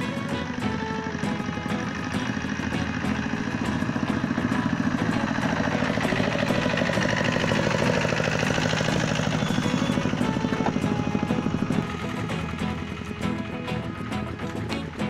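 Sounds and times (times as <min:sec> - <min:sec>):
diesel tractor engine pulsing: 0:00.0 - 0:15.0.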